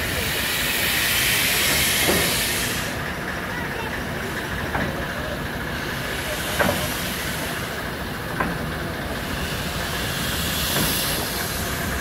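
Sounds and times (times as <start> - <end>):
steam hissing: 0.0 - 12.0
steam locomotive rolling past: 0.0 - 12.0.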